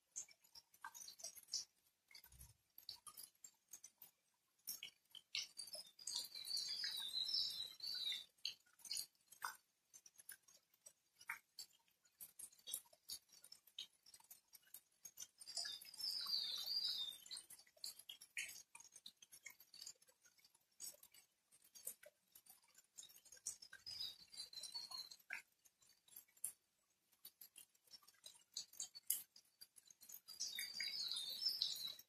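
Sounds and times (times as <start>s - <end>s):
rain dripping: 0.0s - 32.0s.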